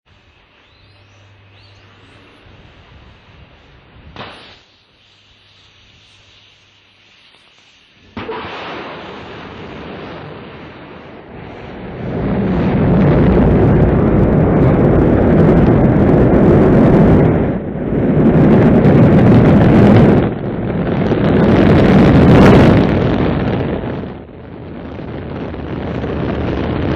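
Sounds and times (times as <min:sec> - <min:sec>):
rocket engine roar: 0:00.1 - 0:26.9.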